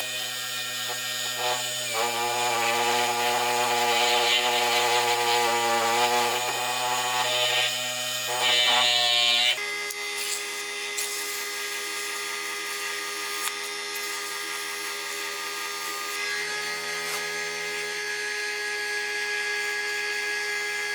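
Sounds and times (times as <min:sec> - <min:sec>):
electric power tool motor hum: 0:00.0 - 0:20.9.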